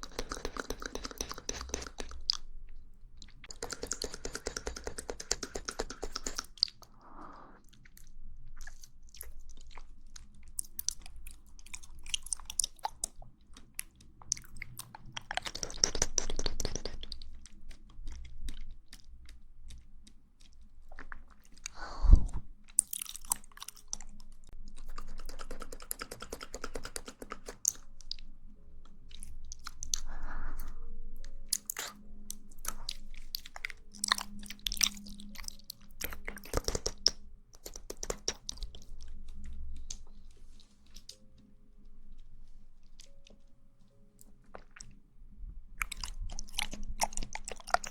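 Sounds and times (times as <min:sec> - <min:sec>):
wet chewing mouth sounds: 0:00.0 - 0:41.4, 0:44.2 - 0:45.0, 0:45.8 - 0:47.9.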